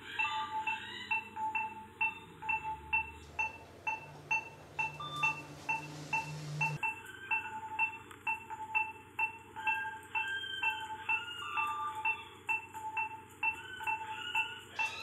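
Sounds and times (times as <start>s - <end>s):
patient monitor beeping: 0.0s - 15.0s.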